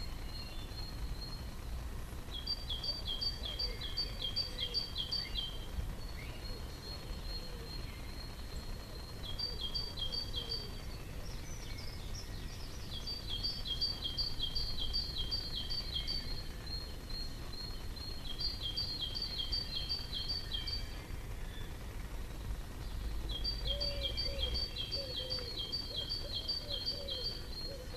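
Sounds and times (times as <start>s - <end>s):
low background rumble: 0.0s - 27.9s
songbird singing: 0.0s - 27.9s.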